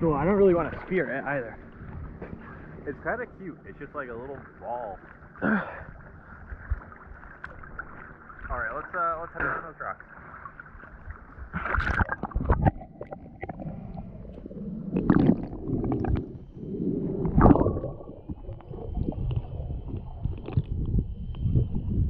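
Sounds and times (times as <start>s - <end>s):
water splashing: 0.0s - 20.8s
muffled underwater gurgling: 0.0s - 22.0s.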